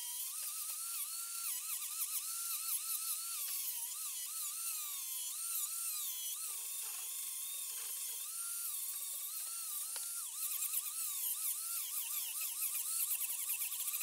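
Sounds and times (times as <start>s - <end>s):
angle grinder cutting wood: 0.0s - 14.0s.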